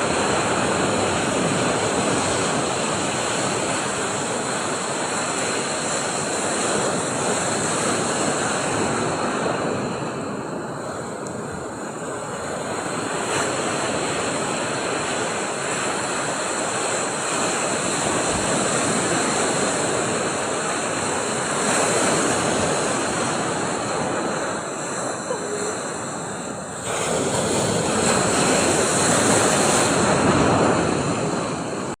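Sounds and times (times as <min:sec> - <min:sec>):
waves washing onto shore: 0:00.0 - 0:32.0.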